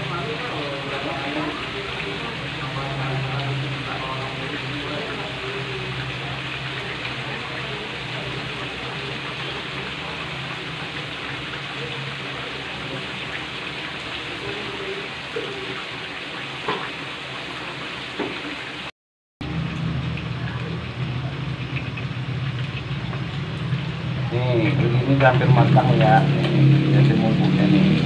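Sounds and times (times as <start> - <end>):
liquid bubbling in a wok: 0.1 - 28.0.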